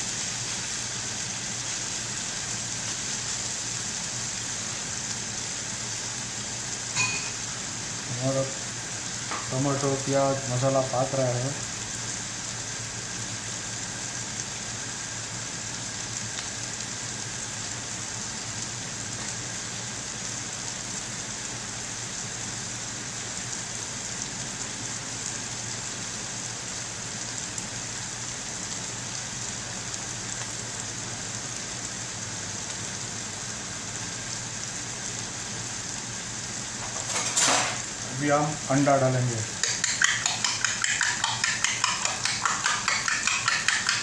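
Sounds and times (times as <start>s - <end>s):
masala sizzling in oil: 0.0s - 44.0s.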